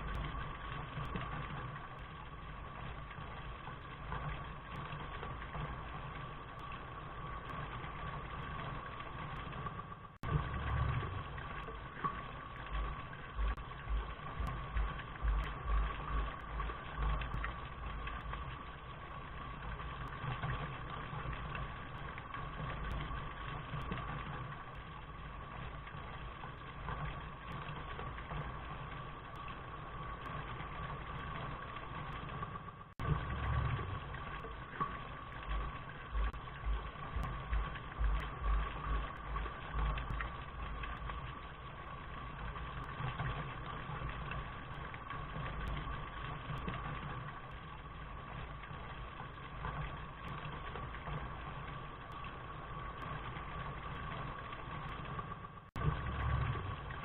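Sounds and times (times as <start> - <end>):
low rumble: 0.0 - 28.9, 31.1 - 53.5, 54.2 - 57.0
steady rain: 0.0 - 57.0.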